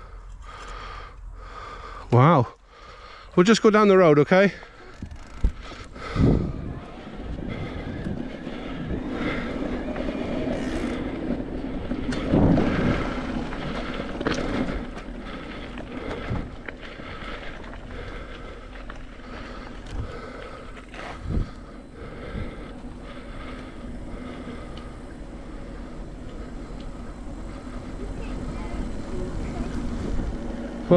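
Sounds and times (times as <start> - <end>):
bike rattling over bumps: 2.8 - 30.9
bike tyres rumbling on dirt: 2.8 - 30.9.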